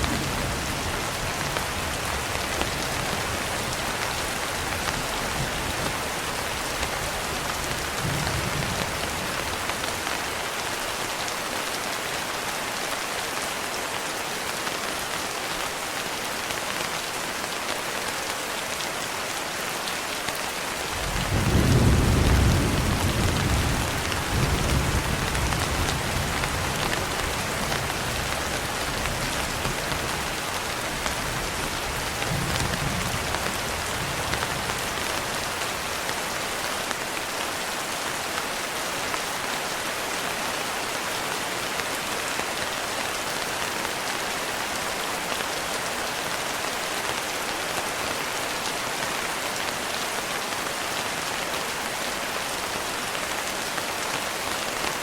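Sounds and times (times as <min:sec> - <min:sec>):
heavy rain pattering: 0:00.0 - 0:55.0.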